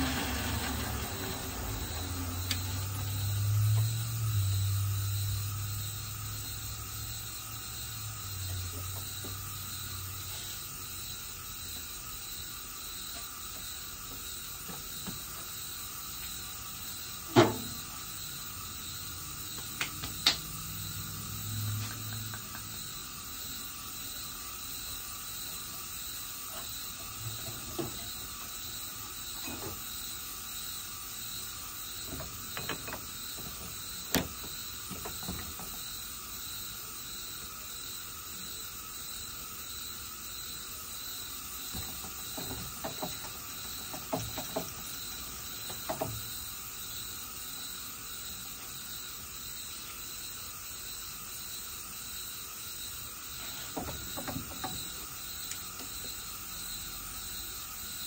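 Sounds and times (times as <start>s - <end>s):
steady hiss with faint whine: 0.0s - 58.0s.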